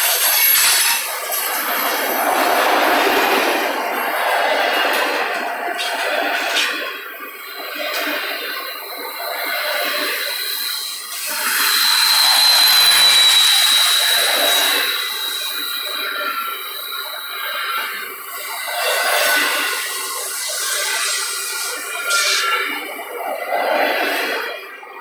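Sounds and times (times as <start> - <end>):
high wheel squeal: 0.0 - 25.0
train wheels on rails: 0.0 - 25.0.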